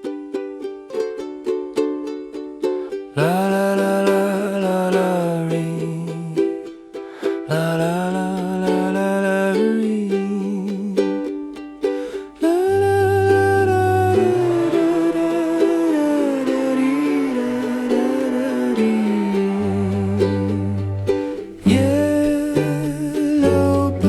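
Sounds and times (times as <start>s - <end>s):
ukulele melody: 0.0s - 24.0s.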